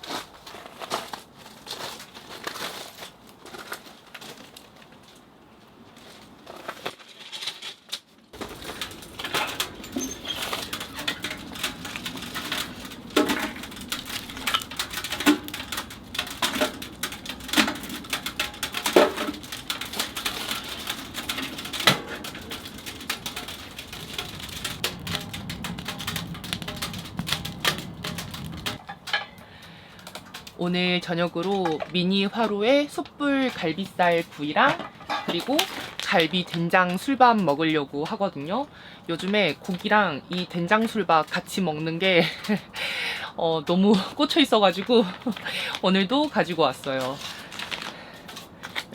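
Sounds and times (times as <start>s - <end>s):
firewood crackling in stove: 0.0s - 48.9s.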